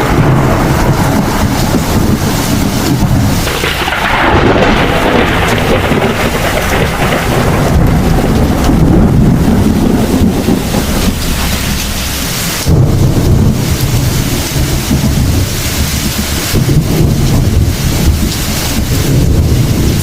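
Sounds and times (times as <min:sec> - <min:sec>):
heavy rain hissing: 0:00.0 - 0:20.0
rolling thunder: 0:00.0 - 0:20.0.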